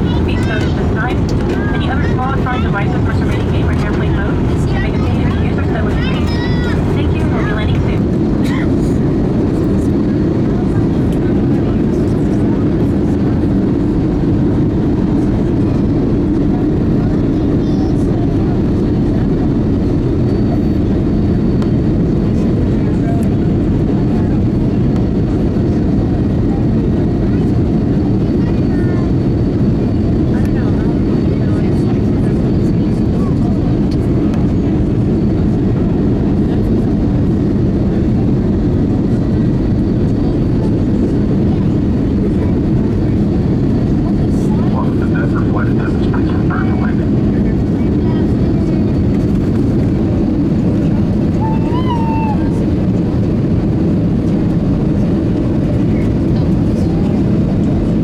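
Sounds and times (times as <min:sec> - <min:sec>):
airplane cabin engine rush: 0:00.0 - 0:58.0.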